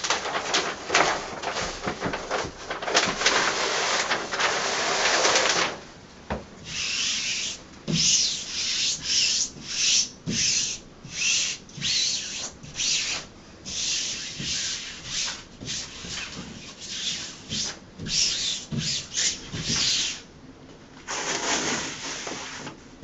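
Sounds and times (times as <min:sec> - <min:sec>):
rubbing strokes on vinyl mural: 0:00.0 - 0:05.7, 0:06.6 - 0:20.3.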